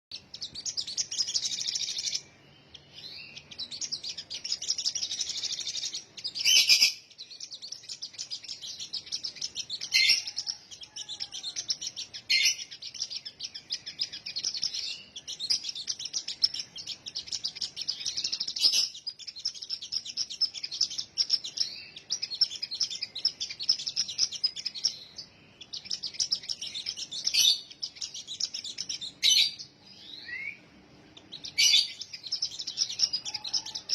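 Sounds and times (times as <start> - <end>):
songbird chattering song: 0.1 - 33.9.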